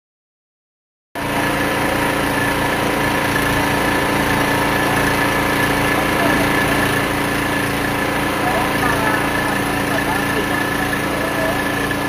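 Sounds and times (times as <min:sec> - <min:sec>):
small engine running: 0:01.2 - 0:12.0.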